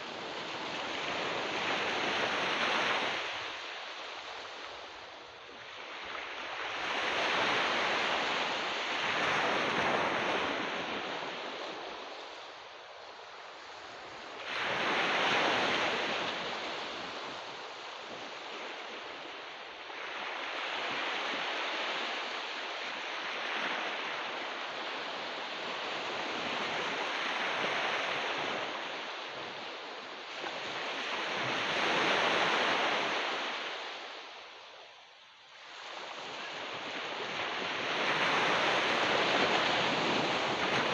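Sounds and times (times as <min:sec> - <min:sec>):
ocean surf breaking on beach: 0:00.0 - 0:35.0, 0:35.6 - 0:40.9.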